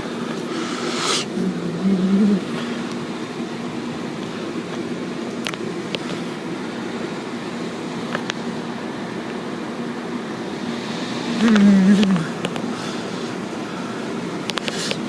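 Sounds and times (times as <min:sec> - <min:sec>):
car wash machinery hum: 0:00.0 - 0:15.0.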